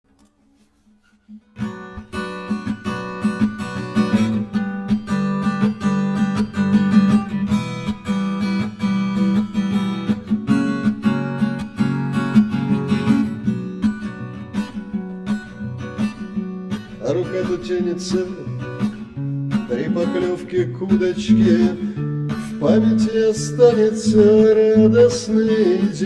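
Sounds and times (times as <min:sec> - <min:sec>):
acoustic guitar strumming: 0:00.1 - 0:26.0.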